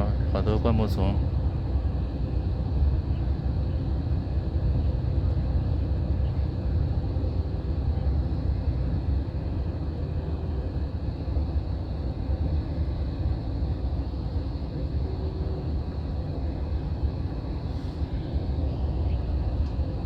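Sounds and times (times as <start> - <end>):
bus engine and tyre noise: 0.0 - 20.0.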